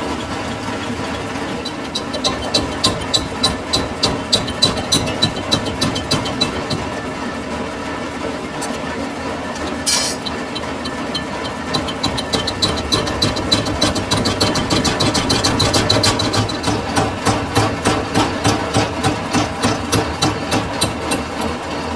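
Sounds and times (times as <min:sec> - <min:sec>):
metalworking lathe humming: 0:00.0 - 0:21.9.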